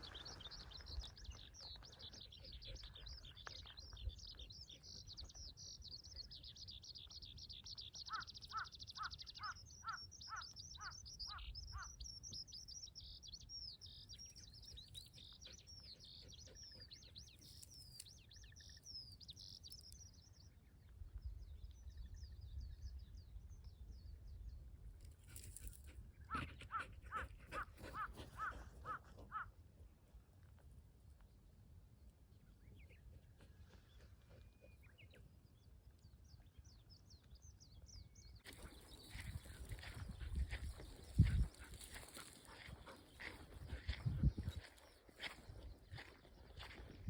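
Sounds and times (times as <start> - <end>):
birds chirping and trilling: 0.0 - 29.6, 32.4 - 47.0.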